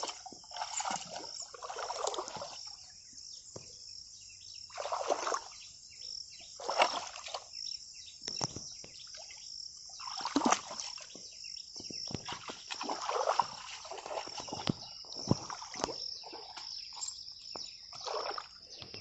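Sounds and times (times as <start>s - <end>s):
mud and water sloshing: 0.0s - 3.8s, 4.5s - 19.0s.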